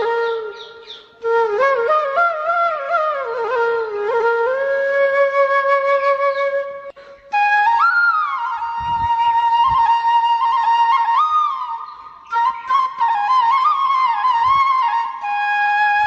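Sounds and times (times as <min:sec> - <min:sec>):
slow flute music: 0:00.0 - 0:16.0.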